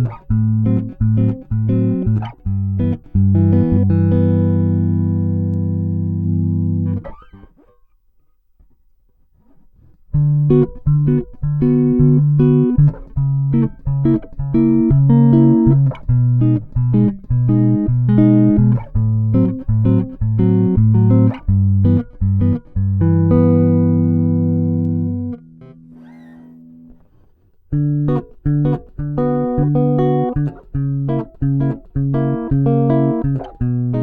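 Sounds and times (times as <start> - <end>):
electric bass notes: 0.0 - 7.5, 10.2 - 27.0, 27.7 - 34.0.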